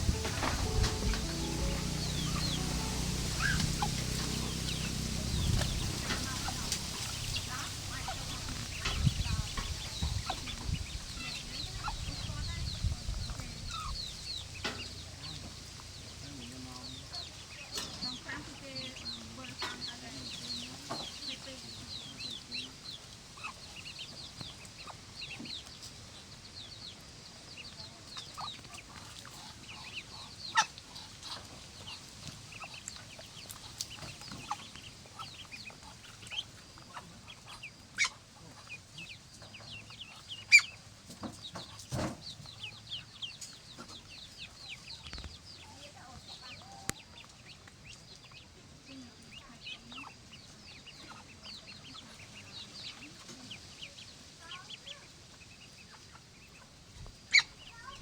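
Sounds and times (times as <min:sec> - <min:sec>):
poultry peeping: 0:00.0 - 0:58.0.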